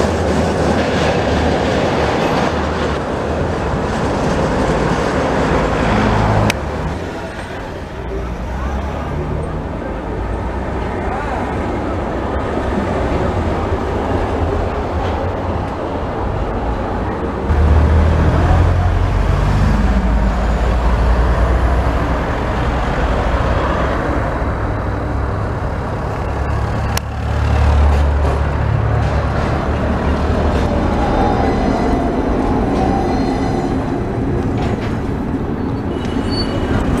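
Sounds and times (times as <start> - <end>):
passing cars: 0.0 - 37.0
tram rumbling: 0.0 - 37.0.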